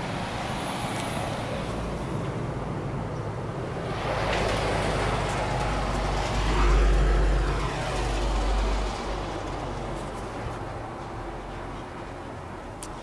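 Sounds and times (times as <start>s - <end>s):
vehicle passing: 0.0s - 11.9s.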